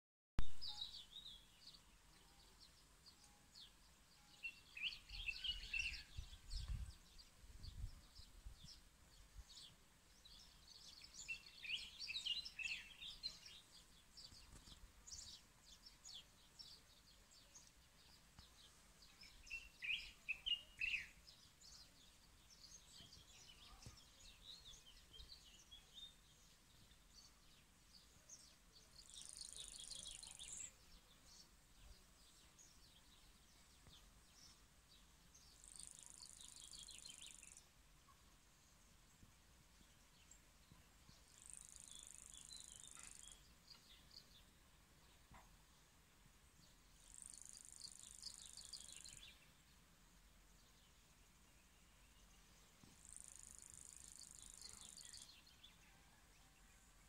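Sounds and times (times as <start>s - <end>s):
small birds chirping: 0.4s - 57.0s.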